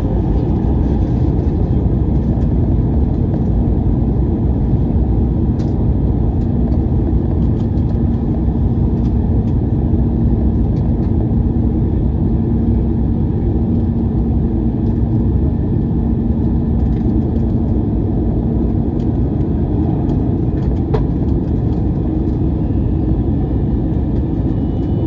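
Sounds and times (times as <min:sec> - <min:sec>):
vehicle rumble from inside: 0:00.0 - 0:25.0.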